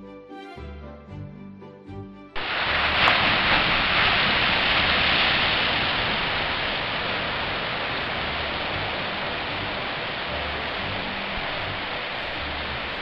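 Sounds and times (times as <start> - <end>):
ocean surf breaking on beach: 2.4 - 13.0.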